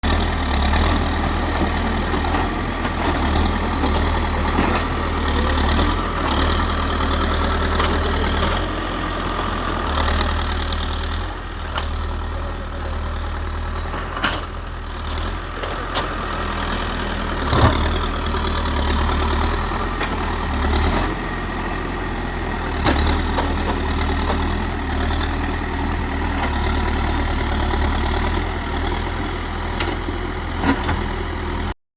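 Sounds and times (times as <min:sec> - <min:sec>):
diesel engine running: 0:00.0 - 0:31.8.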